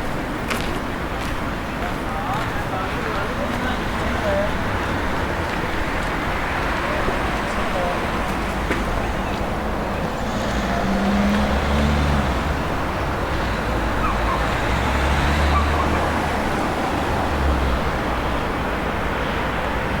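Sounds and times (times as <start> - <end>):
town background noise: 0.0 - 20.0
vehicle engine humming: 1.0 - 20.0.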